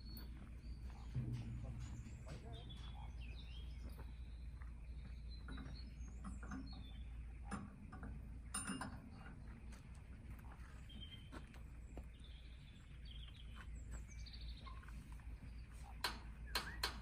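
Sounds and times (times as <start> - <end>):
low steady rumble: 0.0 - 15.9
small birds chirping: 0.0 - 17.0.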